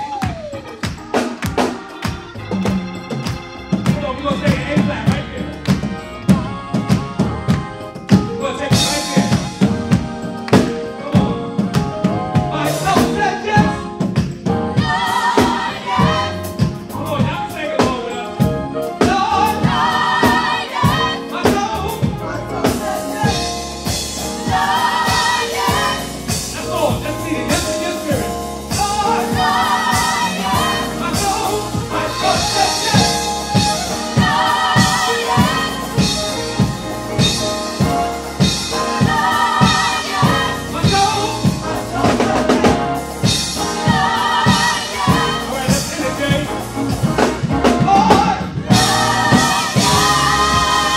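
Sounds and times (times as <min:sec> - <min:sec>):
drum kit steady beat: 0:00.0 - 0:50.9
gospel group singing: 0:00.0 - 0:50.9
keyboard: 0:00.0 - 0:50.9.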